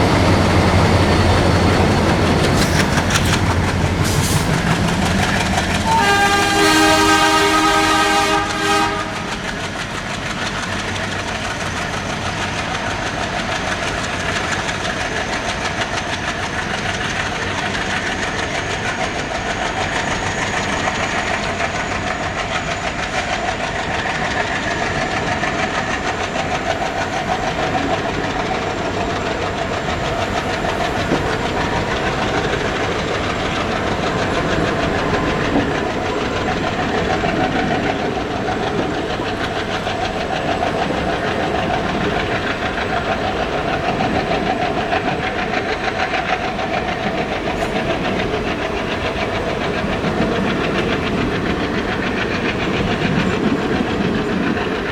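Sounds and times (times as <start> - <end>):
diesel locomotive engine running: 0.0 - 54.9.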